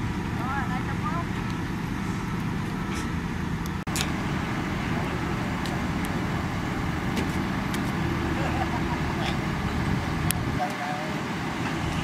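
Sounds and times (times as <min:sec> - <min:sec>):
diesel earthmoving machinery running: 0:00.0 - 0:12.0.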